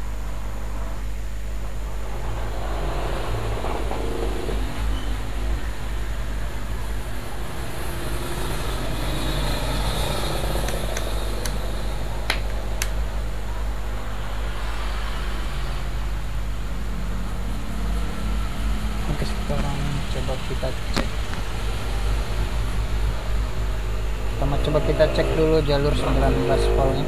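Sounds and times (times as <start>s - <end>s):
low background drone: 0.0s - 27.0s.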